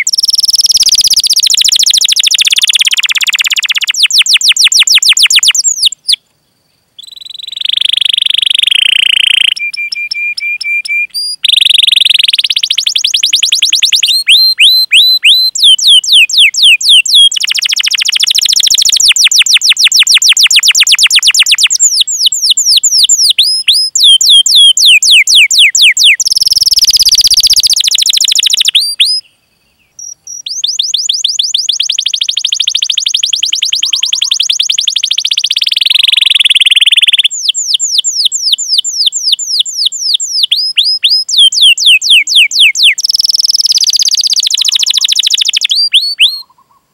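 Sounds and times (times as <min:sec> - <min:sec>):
canary singing trills: 0:00.0 - 0:06.2, 0:07.0 - 0:46.9.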